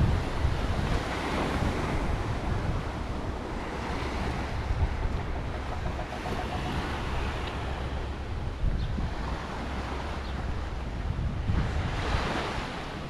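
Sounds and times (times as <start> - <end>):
sea waves against rocks: 0.0 - 13.0
wind rumble on microphone: 0.0 - 13.0.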